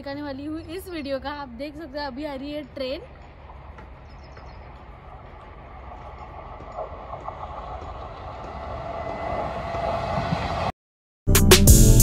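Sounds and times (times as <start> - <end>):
electric train approaching: 0.0 - 10.8.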